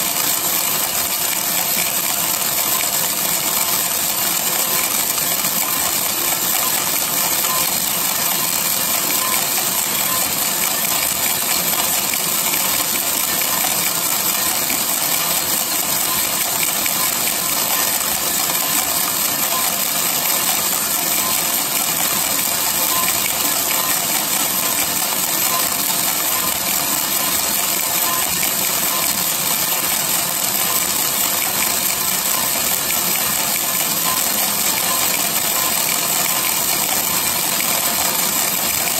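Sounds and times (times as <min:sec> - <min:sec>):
coffee beans rattling in drum: 0:00.0 - 0:38.9
roaster machinery running: 0:00.0 - 0:38.9.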